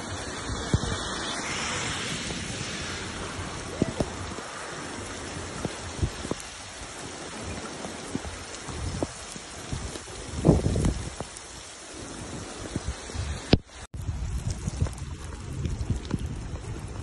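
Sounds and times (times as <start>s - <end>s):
raindrops tapping near microphone: 0.0s - 17.0s
steady rain hiss: 0.0s - 17.0s.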